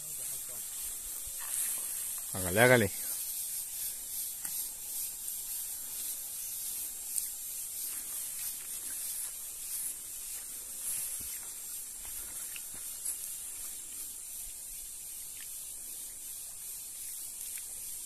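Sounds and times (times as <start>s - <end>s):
high-pitched riverside hiss: 0.0s - 18.0s.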